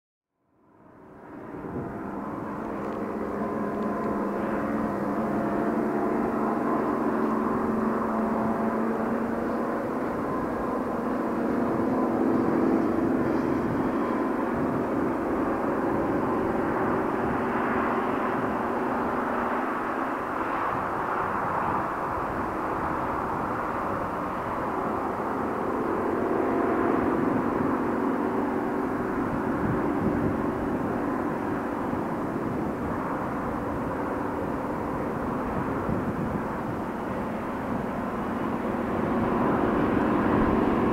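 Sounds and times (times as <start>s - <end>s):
diesel locomotives under full power: 0.5s - 40.9s.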